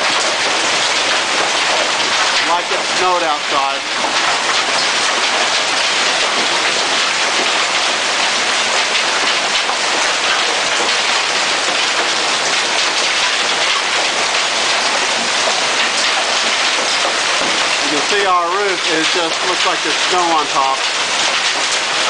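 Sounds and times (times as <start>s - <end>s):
hailstones clattering on surfaces: 0.0s - 22.0s.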